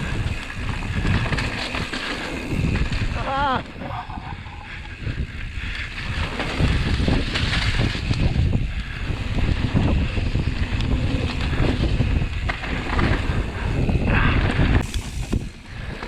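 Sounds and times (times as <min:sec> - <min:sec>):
mountain bike rumbling on dirt trail: 0:00.0 - 0:16.0
wind buffeting microphone: 0:00.0 - 0:16.0.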